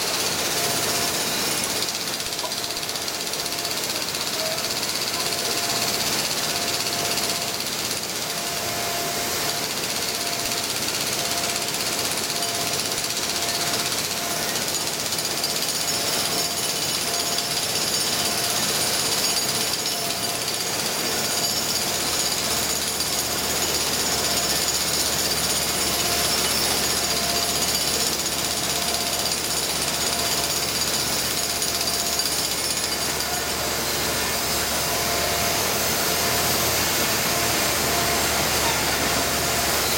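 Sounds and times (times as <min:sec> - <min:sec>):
jackhammer on concrete: 0:00.0 - 0:39.9.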